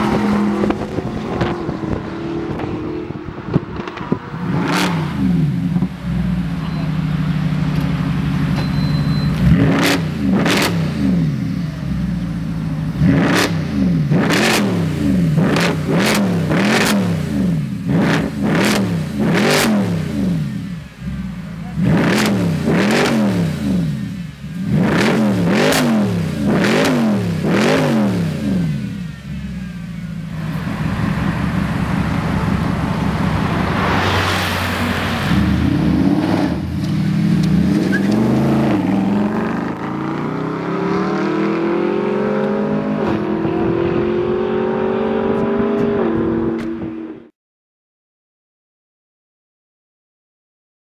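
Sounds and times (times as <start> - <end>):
car engine revving and pulling away: 0.0 - 47.3.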